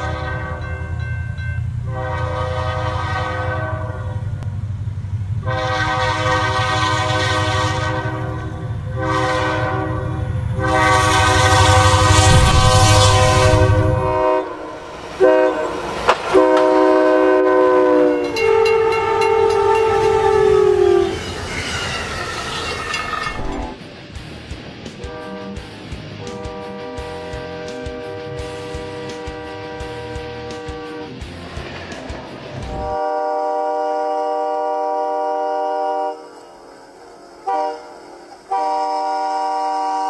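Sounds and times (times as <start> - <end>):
locomotive air horn blasts: 0.0 - 0.9, 1.8 - 4.4, 5.4 - 21.5, 25.0 - 31.1, 32.7 - 36.5, 37.2 - 40.0
passing train rumble: 0.0 - 40.0.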